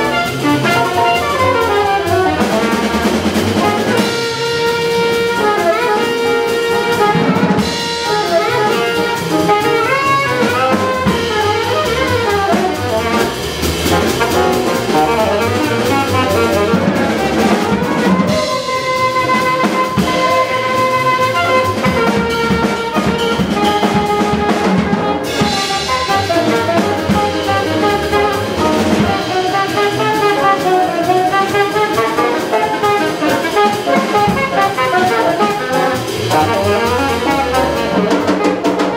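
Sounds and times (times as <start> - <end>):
drum kit: 0.0 - 38.9
grand piano: 0.0 - 38.9
saxophone: 0.0 - 38.9
trombone: 0.0 - 38.9
upright bass: 0.0 - 38.9.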